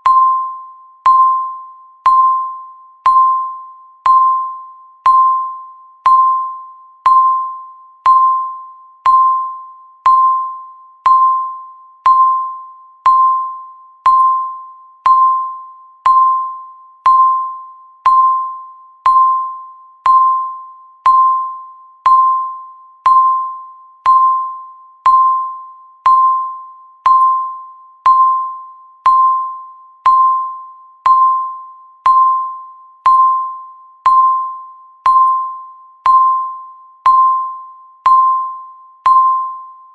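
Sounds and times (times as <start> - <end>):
electronic timer tick: 0.0 - 39.8.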